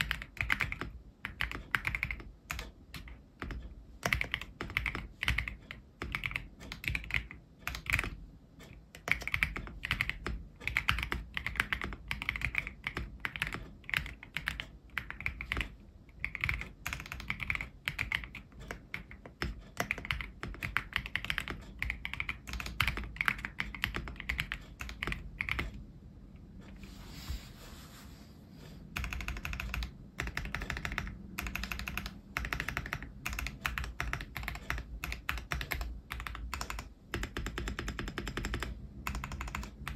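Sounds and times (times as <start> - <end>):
mechanical keyboard typing: 0.0 - 25.8, 28.9 - 39.9.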